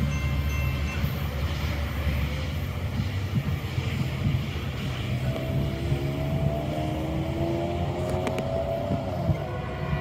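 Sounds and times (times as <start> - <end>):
distant diesel locomotive droning: 0.0 - 10.0.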